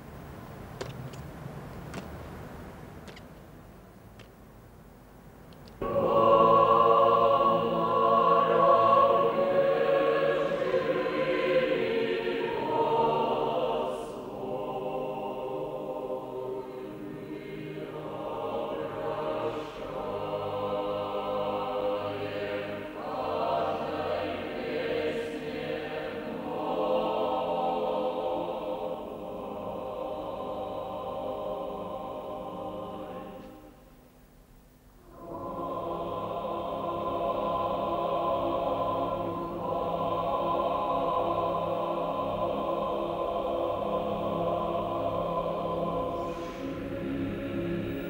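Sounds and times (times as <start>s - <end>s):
slow choral music: 5.6s - 48.0s.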